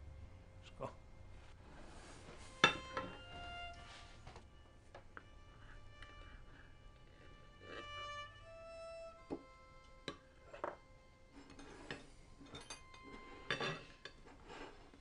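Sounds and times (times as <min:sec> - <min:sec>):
quiet violin music: 0:00.0 - 0:15.0.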